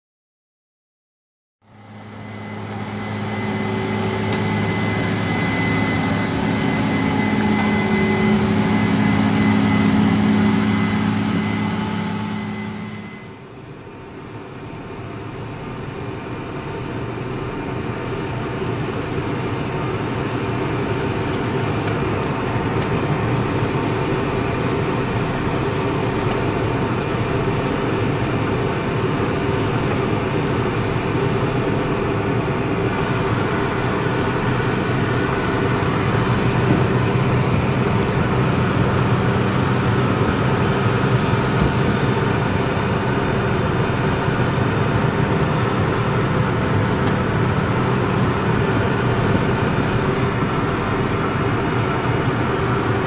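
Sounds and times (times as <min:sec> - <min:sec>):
high whine: 0:01.6 - 0:53.0
machinery engine drone: 0:01.6 - 0:53.0
rough machine noise: 0:01.7 - 0:13.6, 0:19.0 - 0:53.0.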